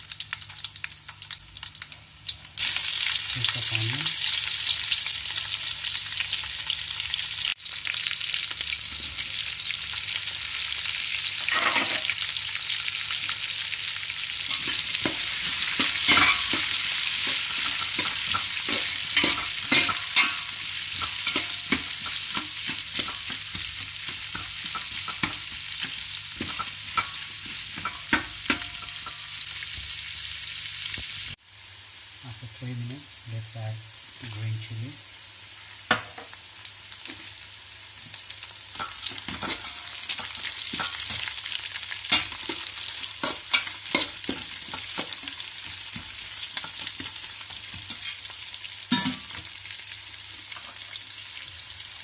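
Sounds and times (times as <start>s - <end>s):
onions sizzling in hot oil: 0.0s - 52.0s.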